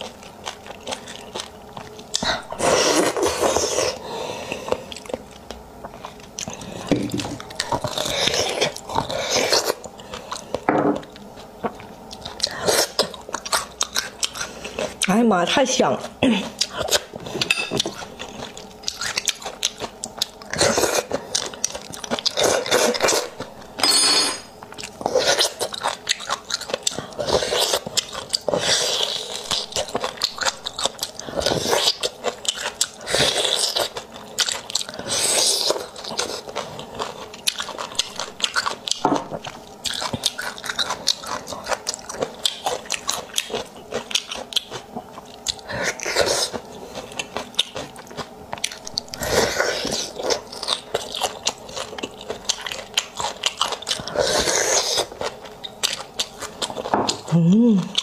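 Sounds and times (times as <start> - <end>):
woman chewing and crunching: 0.0 - 58.0.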